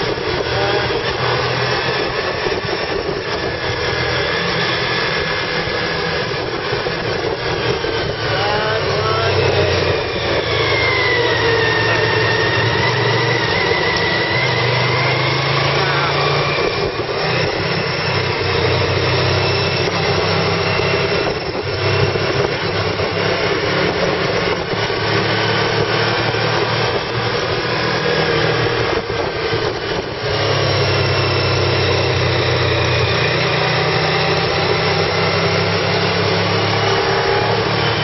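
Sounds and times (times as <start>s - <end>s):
car engine running: 0.0s - 38.0s
road noise: 0.0s - 38.0s.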